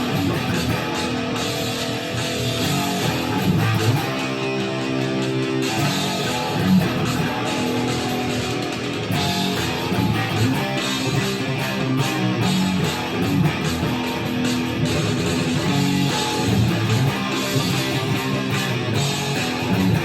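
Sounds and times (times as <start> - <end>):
electric guitar through amplifier: 0.0 - 20.0.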